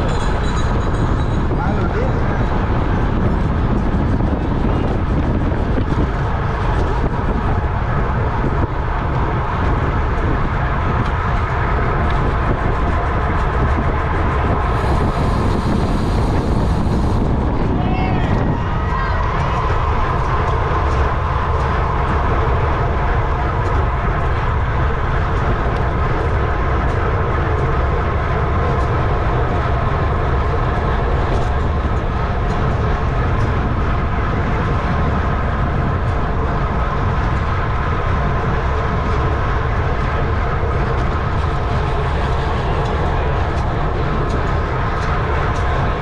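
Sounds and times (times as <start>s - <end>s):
bicycle road noise: 0.0s - 46.0s
steady multi-tone hum: 0.0s - 46.0s
wind rushing over microphone: 0.0s - 46.0s.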